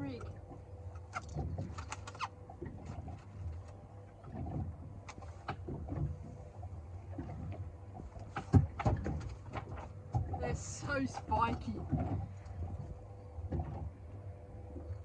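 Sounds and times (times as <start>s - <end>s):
knocks and bumps on boat: 0.0s - 14.2s.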